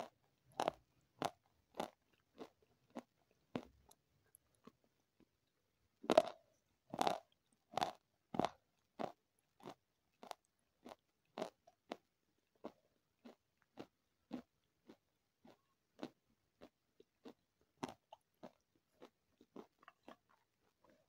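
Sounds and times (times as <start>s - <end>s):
crunchy food chewing: 0.0s - 21.0s.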